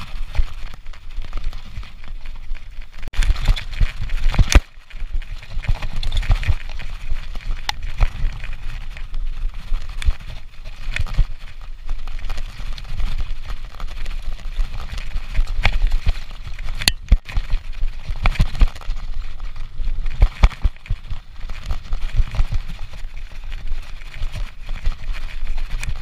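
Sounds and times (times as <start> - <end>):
bike rattling over bumps: 0.0 - 26.0
mountain bike rolling on trail: 0.0 - 26.0.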